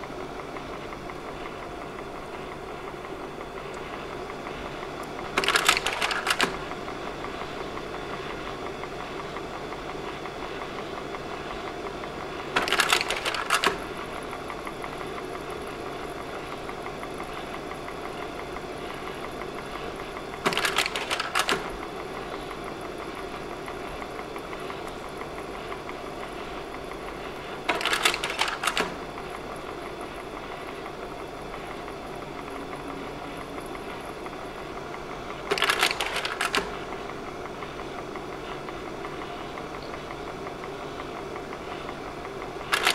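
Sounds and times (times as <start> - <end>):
projector fan hum: 0.0 - 42.9.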